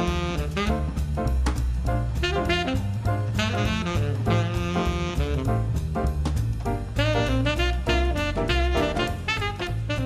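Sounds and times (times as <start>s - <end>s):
horn melody: 0.0s - 1.2s, 2.2s - 6.0s, 6.7s - 10.0s
bass and drums: 0.0s - 10.0s.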